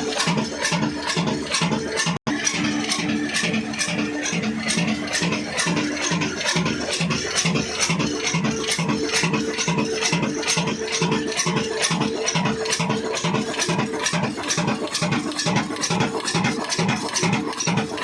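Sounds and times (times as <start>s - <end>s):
diesel engine running: 0.0s - 18.0s
metallic clatter: 0.0s - 18.0s.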